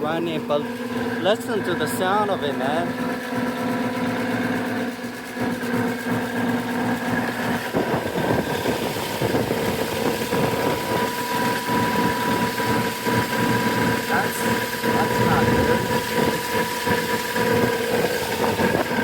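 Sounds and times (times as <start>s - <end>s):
rooftop air conditioner humming: 0.0s - 19.0s.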